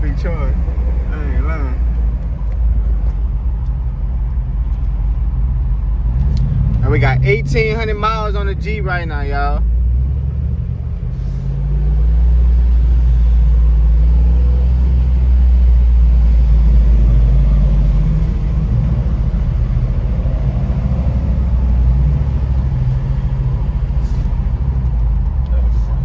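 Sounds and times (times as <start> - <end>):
car engine rumble: 0.0 - 26.0
road noise: 0.0 - 26.0.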